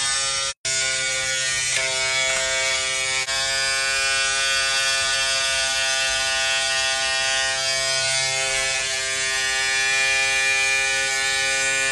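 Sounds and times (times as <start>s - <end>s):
electric hair clippers buzzing: 0.0s - 11.9s.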